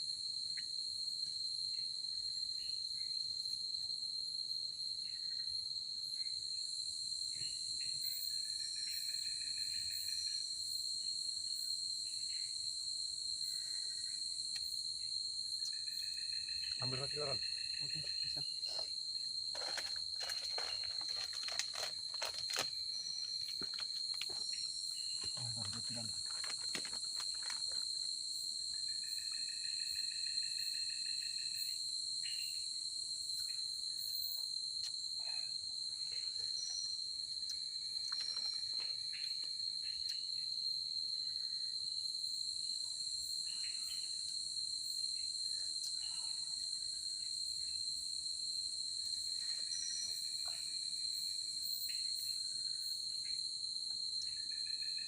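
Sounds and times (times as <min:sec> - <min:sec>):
high-pitched insect trill: 0:00.0 - 0:55.0
two-note insect calls: 0:07.3 - 0:12.8, 0:13.4 - 0:48.1, 0:48.7 - 0:53.4, 0:54.2 - 0:55.0.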